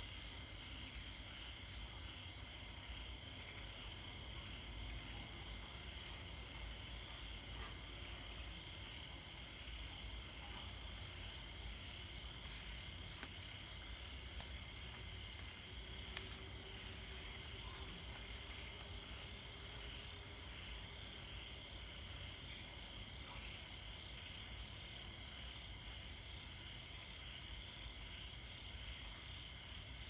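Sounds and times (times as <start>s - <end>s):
night insects chirping: 0.0s - 30.0s.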